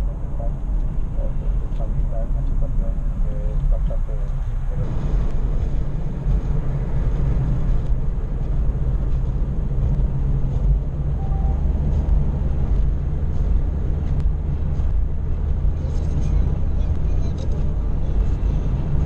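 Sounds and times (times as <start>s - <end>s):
car engine and tyre noise: 0.0s - 19.0s.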